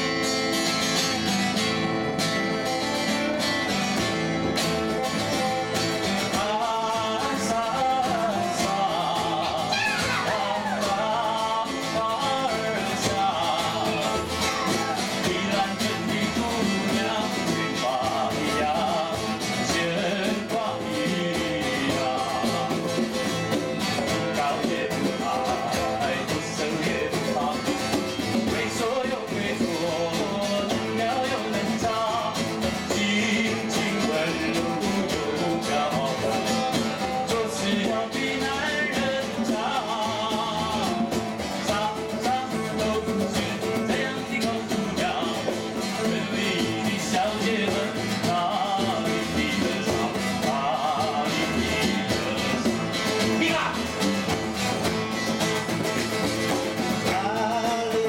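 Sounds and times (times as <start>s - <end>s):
acoustic guitar strumming: 0.0s - 58.0s
voices singing: 0.0s - 58.0s.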